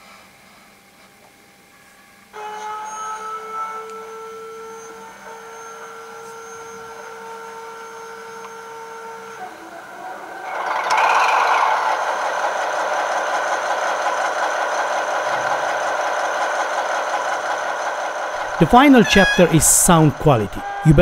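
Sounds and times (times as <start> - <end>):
model diesel engine sound: 2.4 - 21.0.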